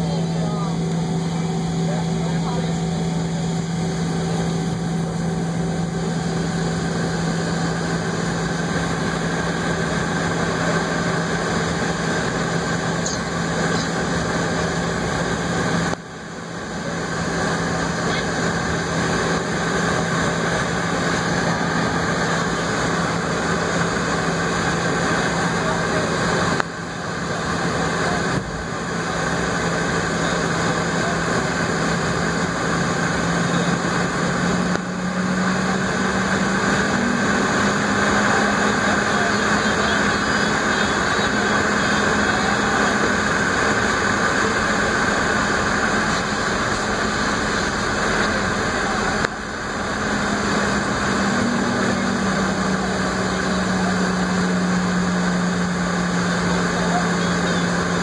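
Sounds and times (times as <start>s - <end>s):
jet engines humming: 0.0s - 58.0s.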